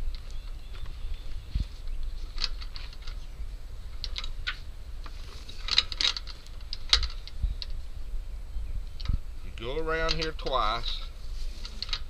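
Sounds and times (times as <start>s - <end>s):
rope rustling and clicking: 0.0s - 7.8s, 10.0s - 12.0s.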